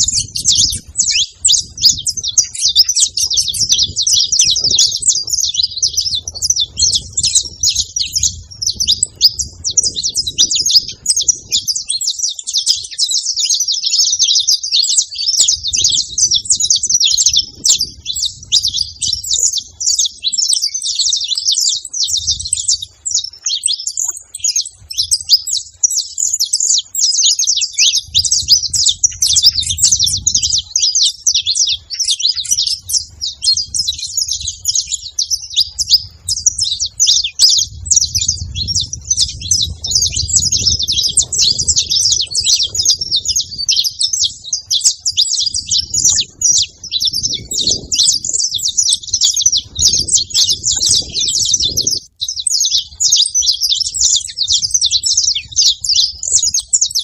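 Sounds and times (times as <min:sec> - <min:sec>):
flock of finches chirping: 0:00.0 - 0:57.0.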